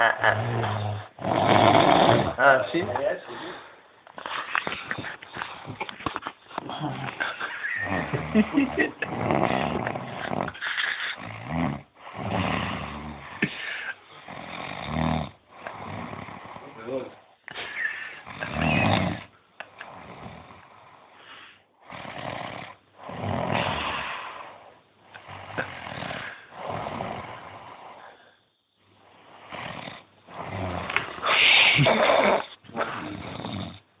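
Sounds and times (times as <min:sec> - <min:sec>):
person snoring loudly: 0:00.0 - 0:02.6, 0:06.6 - 0:17.0, 0:17.7 - 0:21.0, 0:21.8 - 0:28.2, 0:29.3 - 0:33.8.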